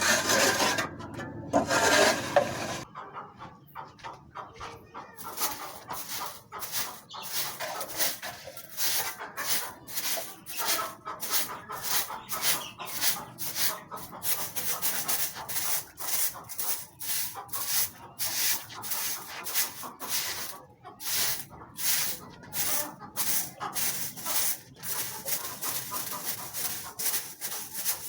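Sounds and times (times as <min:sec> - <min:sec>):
rhythmic scraping strokes: 0:00.0 - 0:02.9, 0:05.1 - 0:28.0.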